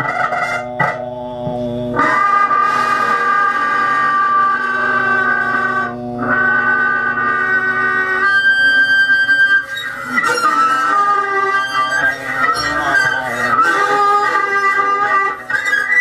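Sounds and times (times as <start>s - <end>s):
bowed box droning tones: 0.0s - 16.0s.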